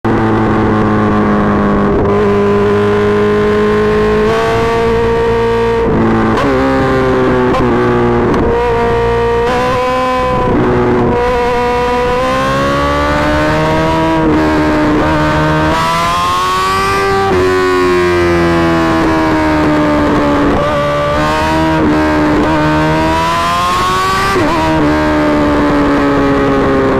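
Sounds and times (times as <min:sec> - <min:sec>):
motorcycle engine revving: 0:00.1 - 0:26.9.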